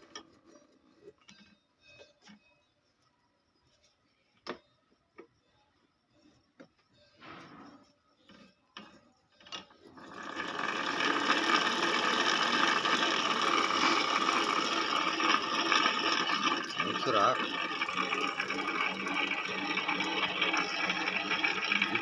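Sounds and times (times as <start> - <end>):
small machine whirring clatter: 0.0 - 22.0.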